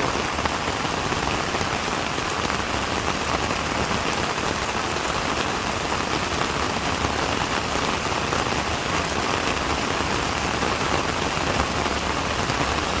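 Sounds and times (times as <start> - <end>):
rain on a hard surface: 0.0 - 13.0.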